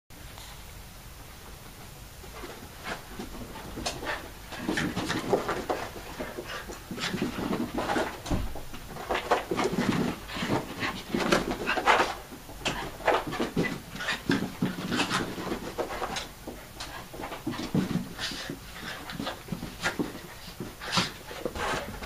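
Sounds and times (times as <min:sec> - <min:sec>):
dogs playing noisily: 0:01.2 - 0:22.0.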